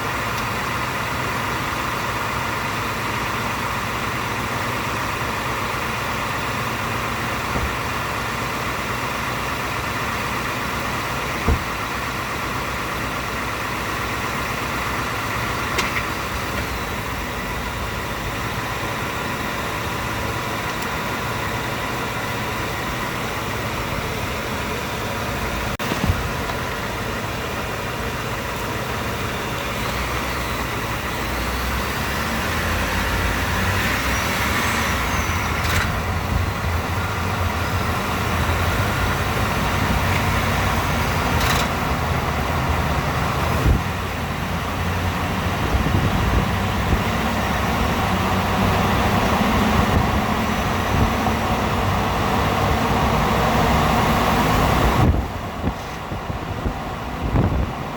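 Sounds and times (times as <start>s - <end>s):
truck engine under load: 0.0s - 57.9s.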